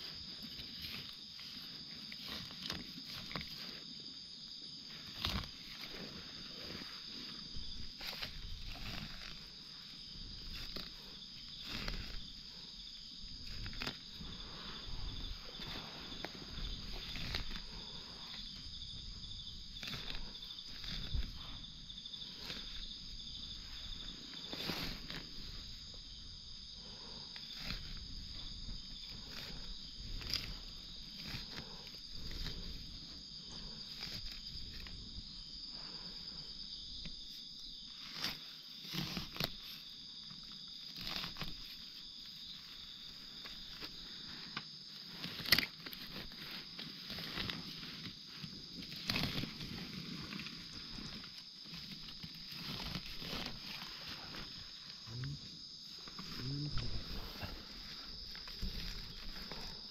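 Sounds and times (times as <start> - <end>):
insect chorus drone: 0.0 - 59.9
rustles and knocks in ground cover: 0.0 - 59.9.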